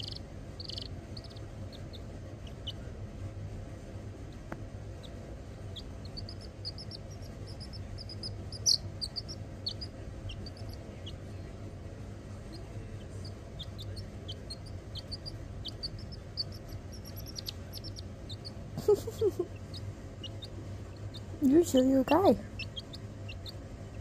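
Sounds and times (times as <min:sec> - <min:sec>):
chick peeping: 0:00.0 - 0:02.9, 0:04.3 - 0:11.6, 0:12.4 - 0:24.0.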